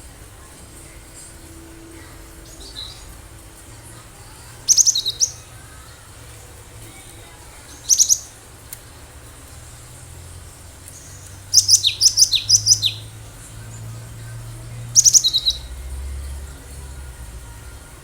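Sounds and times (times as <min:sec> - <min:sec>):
bird chirping: 0:00.0 - 0:17.7.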